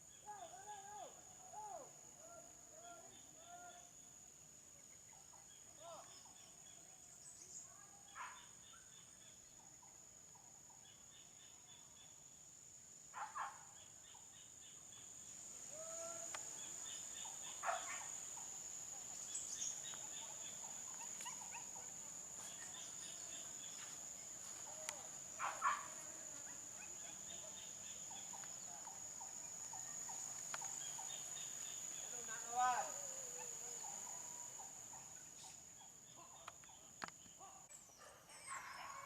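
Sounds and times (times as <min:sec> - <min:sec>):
insect chirping trills: 0:00.0 - 0:39.0
loud insect calls: 0:00.0 - 0:39.0.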